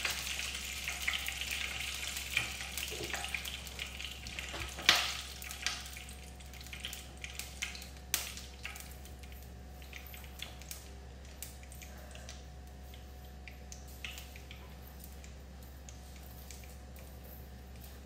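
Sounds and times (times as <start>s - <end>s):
oil crackling and popping: 0.0s - 17.0s.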